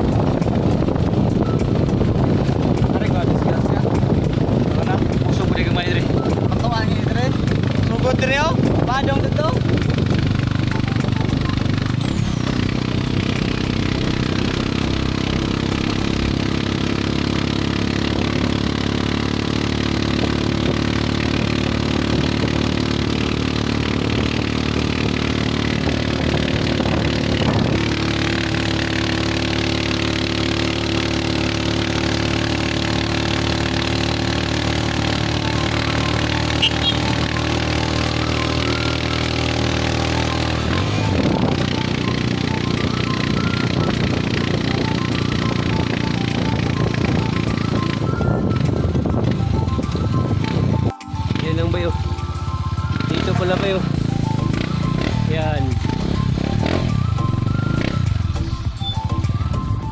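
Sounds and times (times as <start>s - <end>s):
small motorcycle engine running: 0.0s - 59.9s.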